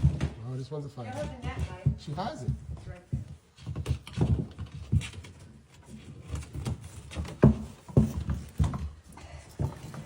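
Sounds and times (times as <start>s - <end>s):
knocks and thumps: 0.0s - 10.0s.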